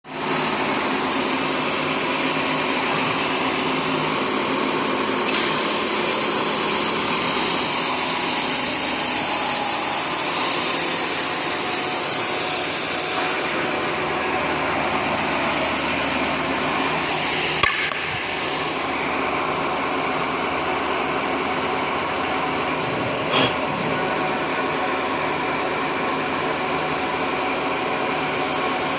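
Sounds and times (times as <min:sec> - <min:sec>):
sanding machine running: 0:00.1 - 0:28.9.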